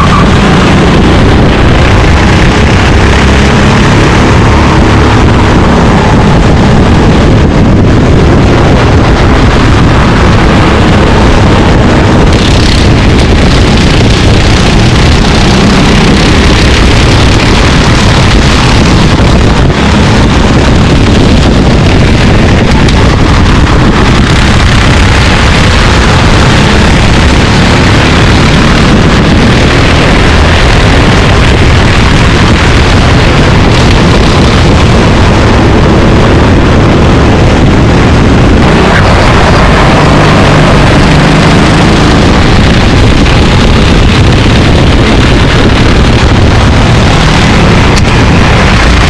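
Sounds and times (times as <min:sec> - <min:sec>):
racing kart engines: 0:00.0 - 0:49.0.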